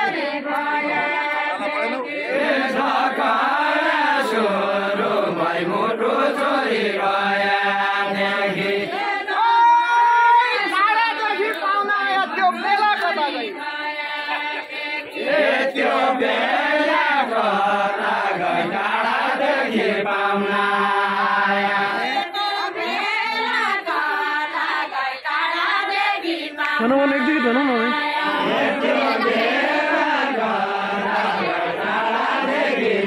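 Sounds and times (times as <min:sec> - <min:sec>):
group of voices singing folk song: 0:00.0 - 0:33.0.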